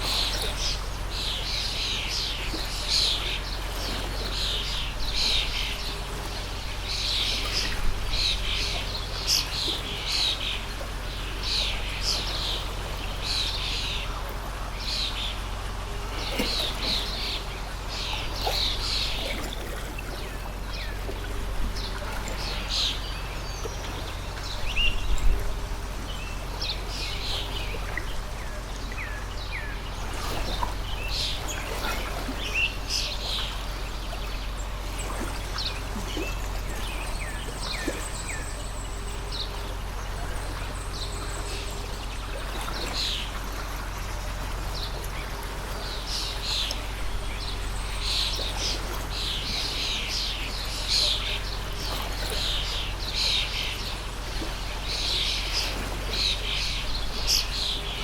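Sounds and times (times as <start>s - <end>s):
small birds chirping: 0.0s - 58.0s
stream rushing: 0.0s - 58.0s.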